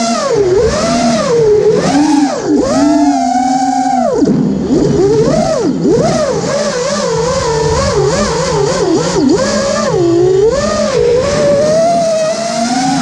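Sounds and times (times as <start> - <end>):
quadcopter propellers whining: 0.0 - 13.0.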